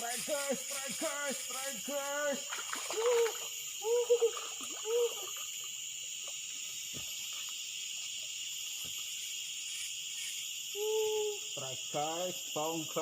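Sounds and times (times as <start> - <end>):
insect chorus droning: 0.0 - 13.0.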